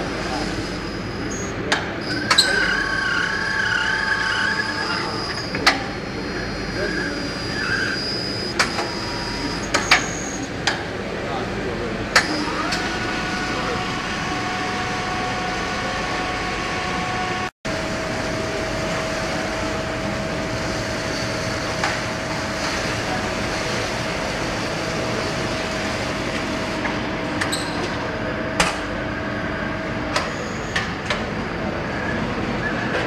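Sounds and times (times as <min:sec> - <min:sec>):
conveyor machinery humming: 0:00.0 - 0:33.0.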